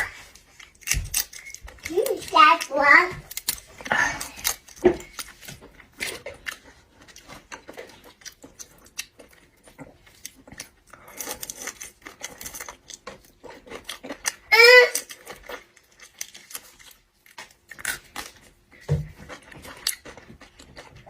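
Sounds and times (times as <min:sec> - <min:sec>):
seafood shells cracking: 0:00.0 - 0:18.6
chewing: 0:00.0 - 0:21.0.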